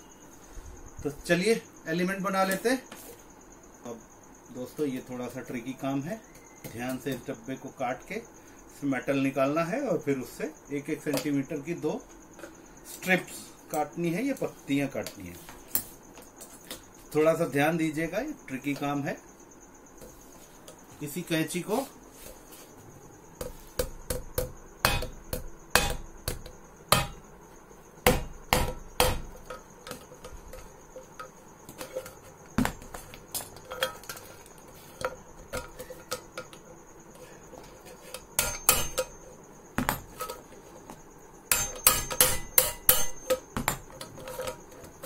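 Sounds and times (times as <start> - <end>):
cricket chirring: 0.0 - 45.0.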